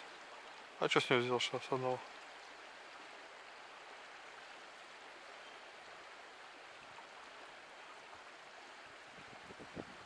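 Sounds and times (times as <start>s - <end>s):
river flowing: 0.0s - 10.0s.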